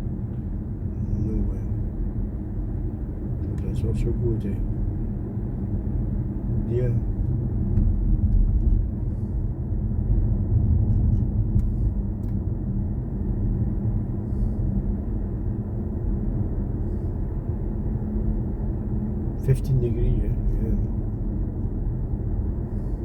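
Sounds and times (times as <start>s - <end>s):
electric car low hum: 0.0s - 23.0s
road and tyre rumble: 0.0s - 23.0s.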